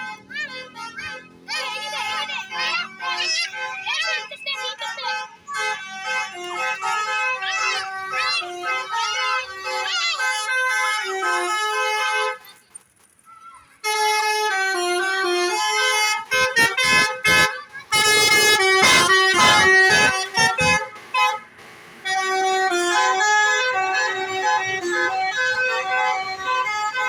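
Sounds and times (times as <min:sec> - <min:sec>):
musical air horn tunes: 0:00.0 - 0:12.5, 0:13.8 - 0:27.0.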